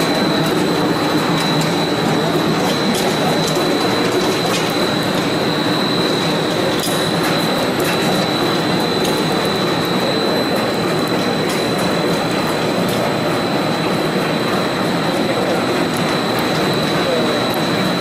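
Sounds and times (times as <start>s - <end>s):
high machine whine: 0.0s - 18.0s
snack extruder machine running: 0.0s - 18.0s.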